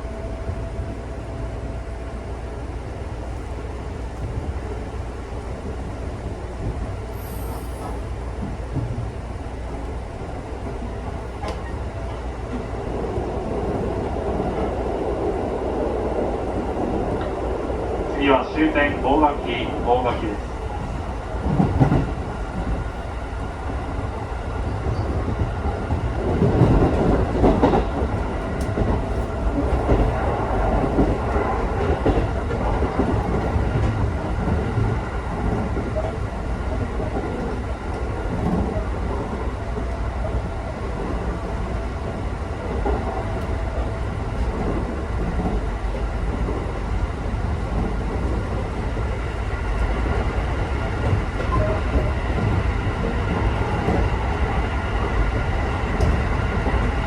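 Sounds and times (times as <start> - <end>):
train wheels rumbling on rail: 0.0 - 57.0
train clatter: 2.9 - 57.0.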